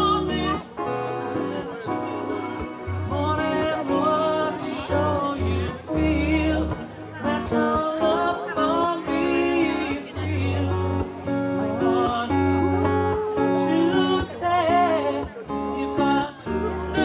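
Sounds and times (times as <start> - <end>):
acoustic guitar: 0.0 - 17.0
bass: 0.0 - 17.0
people singing: 3.1 - 17.0.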